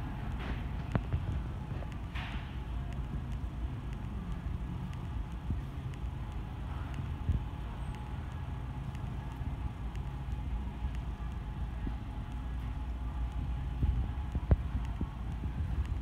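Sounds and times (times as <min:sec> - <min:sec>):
low rumble and hum: 0:00.0 - 0:16.0
light clicks and ticks: 0:00.1 - 0:16.0.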